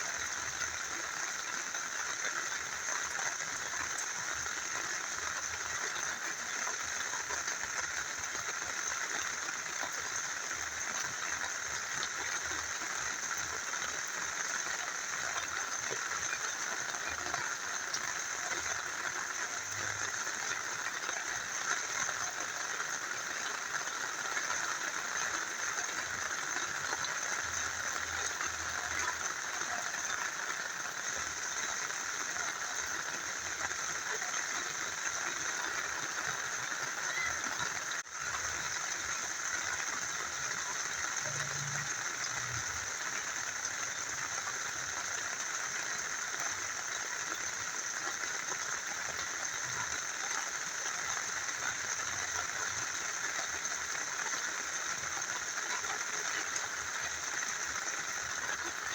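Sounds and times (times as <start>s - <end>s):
small river flowing: 0.0s - 58.9s
steady rain falling: 0.0s - 58.9s.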